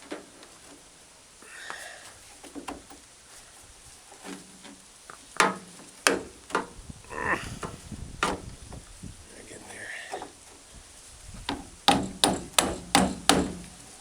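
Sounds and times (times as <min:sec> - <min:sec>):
rustling and scraping: 0:00.0 - 0:11.8.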